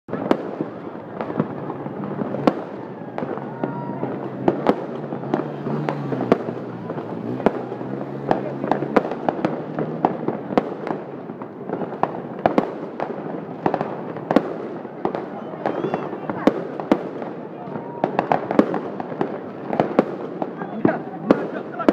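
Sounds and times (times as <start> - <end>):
fireworks bangs and crackles: 0.1 - 21.9.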